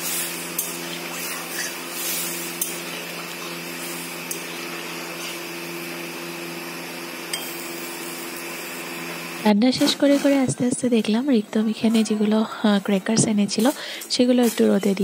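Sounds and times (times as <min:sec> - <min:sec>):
steady hum and hiss: 0:00.0 - 0:15.0.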